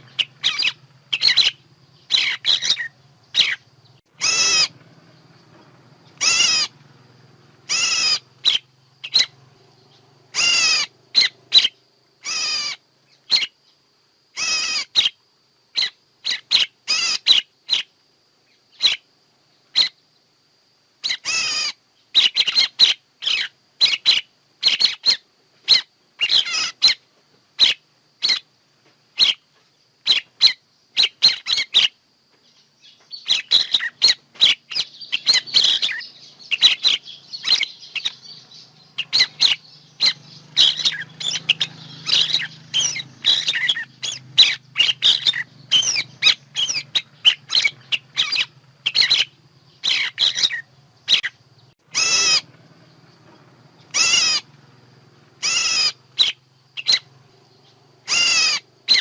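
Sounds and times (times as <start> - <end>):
songbird chirping calls: 0.0 - 59.0.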